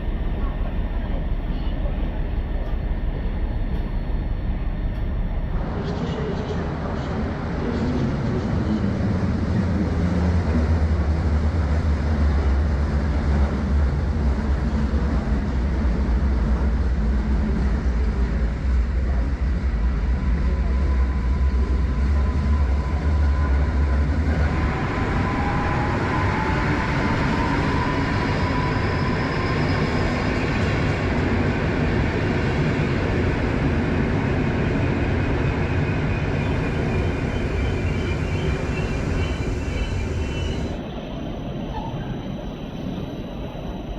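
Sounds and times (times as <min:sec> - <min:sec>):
train low drone: 0:00.0 - 0:43.9
train rushing noise: 0:00.0 - 0:43.9.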